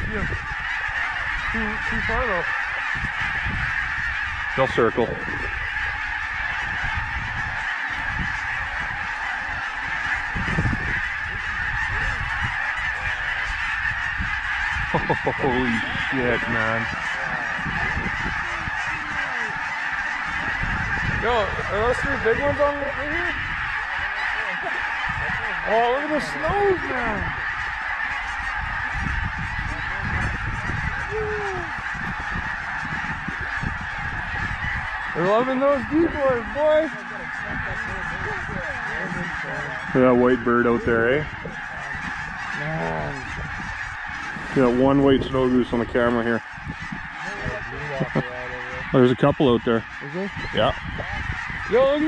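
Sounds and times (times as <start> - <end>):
flock of geese honking: 0.0 - 52.0
nearer falling goose honk: 0.0 - 52.0.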